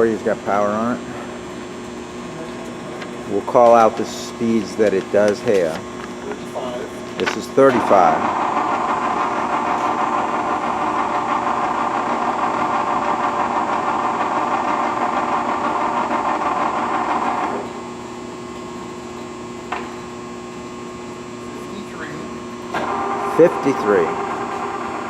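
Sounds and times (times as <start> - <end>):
lathe mechanical whir: 0.0 - 25.0.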